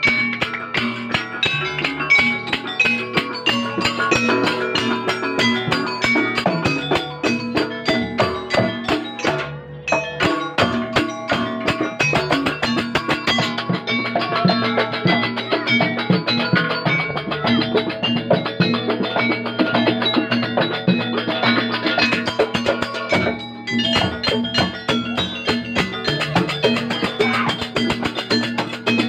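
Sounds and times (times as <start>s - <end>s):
fast percussion strokes: 0.0s - 29.0s.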